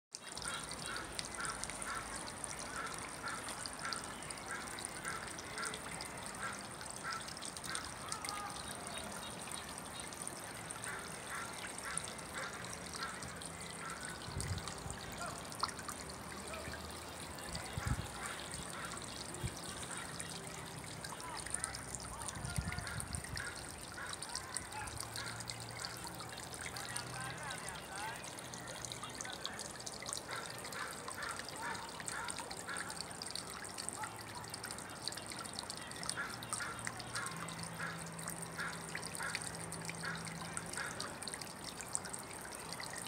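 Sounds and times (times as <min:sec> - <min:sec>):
fountain trickling: 0:00.1 - 0:43.0.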